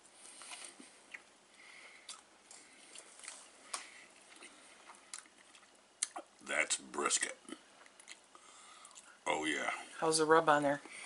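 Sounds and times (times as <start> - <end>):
man chewing food: 0.0 - 9.3.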